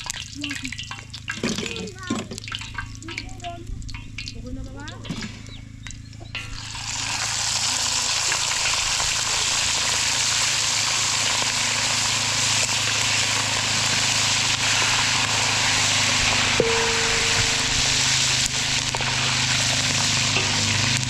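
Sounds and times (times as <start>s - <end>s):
chicken sizzling in hot oil: 0.0s - 5.0s, 5.9s - 21.0s.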